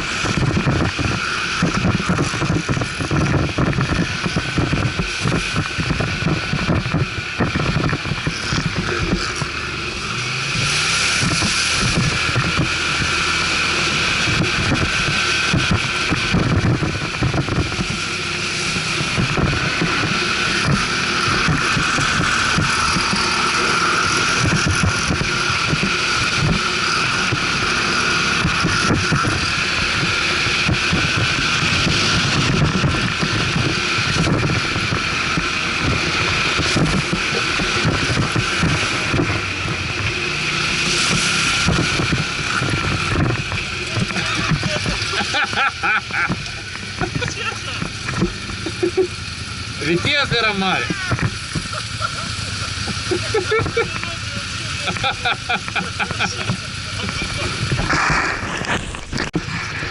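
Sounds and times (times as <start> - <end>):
wind buffeting microphone: 0.0 - 50.1, 50.8 - 59.9
atv engine running: 0.0 - 59.9.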